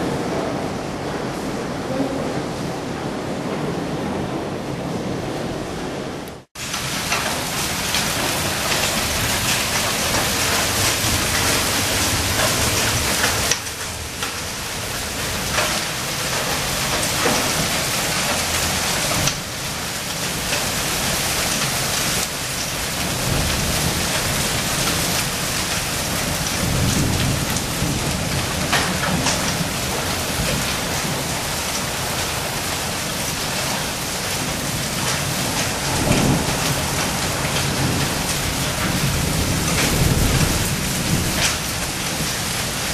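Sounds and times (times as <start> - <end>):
heavy rain with hail on paving: 0.0 - 42.9.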